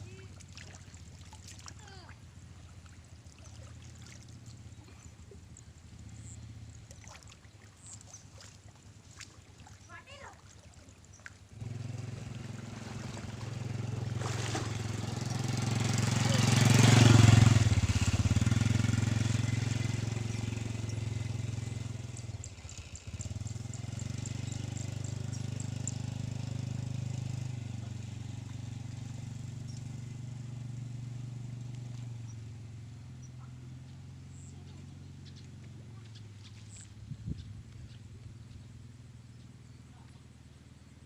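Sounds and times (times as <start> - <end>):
engine running: 0.0 - 10.3, 11.0 - 41.0.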